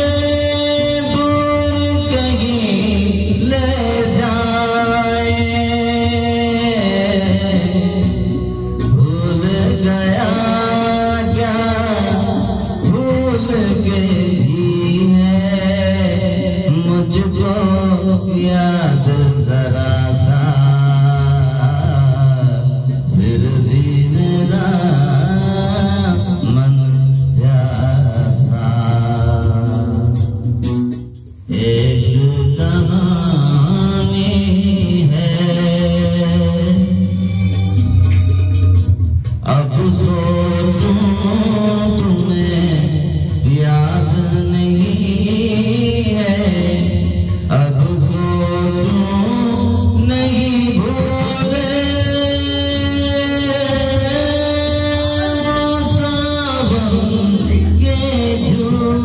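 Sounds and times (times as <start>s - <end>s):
man singing into microphone: 0.0s - 38.6s, 39.2s - 59.0s.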